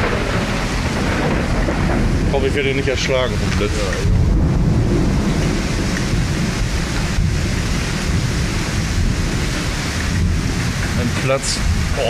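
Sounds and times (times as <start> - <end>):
deep low thunder rumble: 0.0 - 12.0
heavy rain pouring: 0.0 - 12.0.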